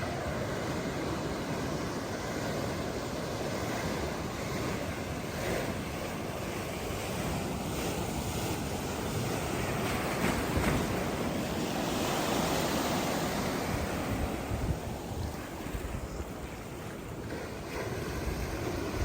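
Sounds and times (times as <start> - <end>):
sea waves washing onto beach: 0.0 - 19.0
wind buffeting microphone: 2.5 - 19.0.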